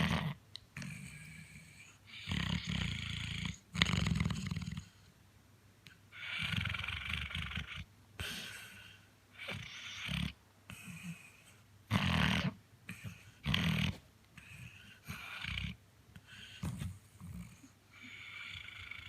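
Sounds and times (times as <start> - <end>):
dog snoring: 0.0 - 5.0, 6.1 - 19.0.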